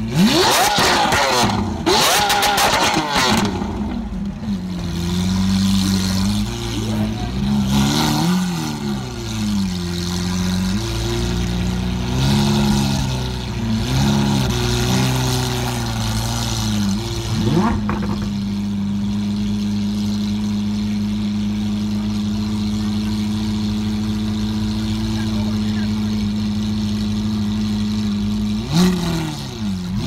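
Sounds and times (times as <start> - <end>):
car engine revving and idling: 0.0 - 30.0.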